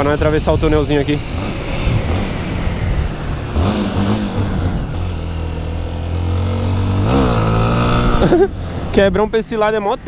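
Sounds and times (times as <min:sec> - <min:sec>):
wind rushing over microphone: 0:00.0 - 0:10.0
motorcycle engine accelerating: 0:00.2 - 0:09.1.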